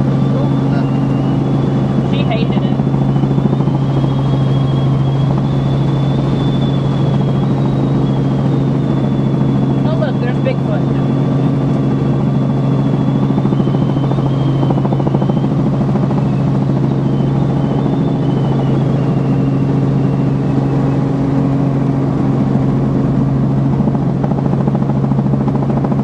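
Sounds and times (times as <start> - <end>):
high whine: 0.0 - 24.6
helicopter rotor and engine drone: 0.0 - 26.0.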